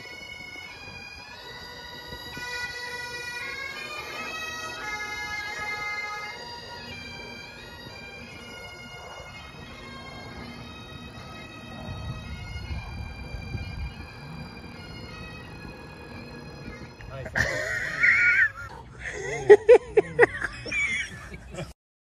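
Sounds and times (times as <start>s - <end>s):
bagpipes playing: 0.0s - 21.7s.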